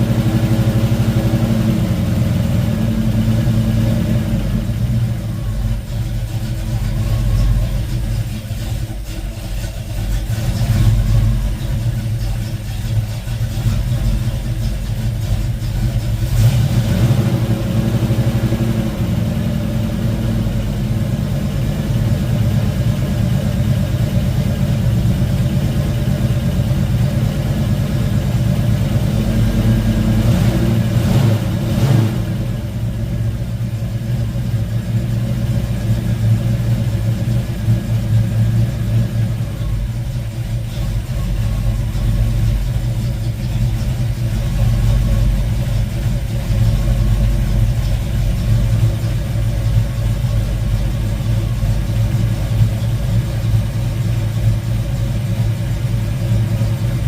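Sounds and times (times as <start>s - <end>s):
car engine warming up: 0.0s - 57.0s.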